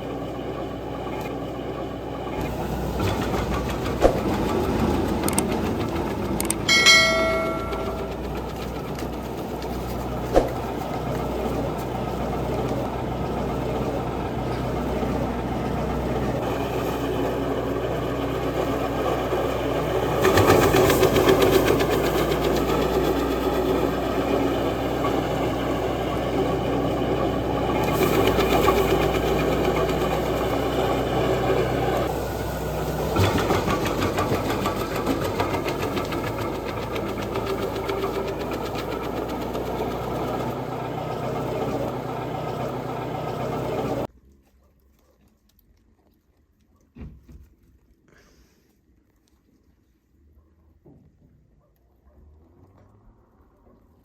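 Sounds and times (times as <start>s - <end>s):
wood chipper engine running: 0.0s - 44.1s.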